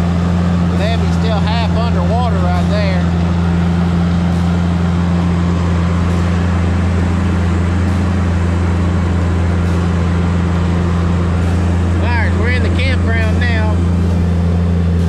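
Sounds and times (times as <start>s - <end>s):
diesel engine droning: 0.0s - 15.0s
water washing: 0.0s - 15.0s.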